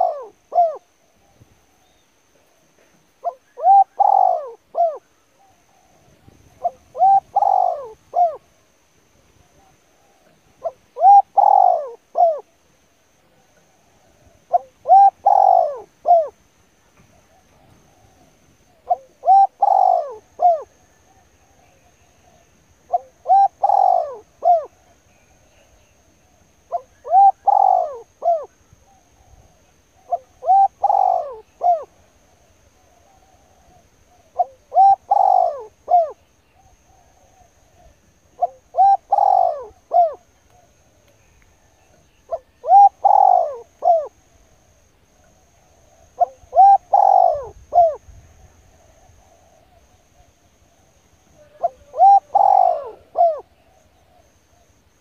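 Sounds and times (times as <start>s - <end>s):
bird calling: 0.0s - 8.5s, 9.5s - 12.6s, 13.6s - 48.1s, 48.8s - 54.8s.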